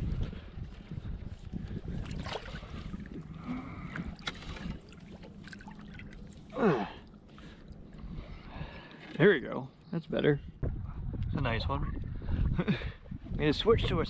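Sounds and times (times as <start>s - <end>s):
low rumble: 0.0s - 8.8s, 10.4s - 14.0s.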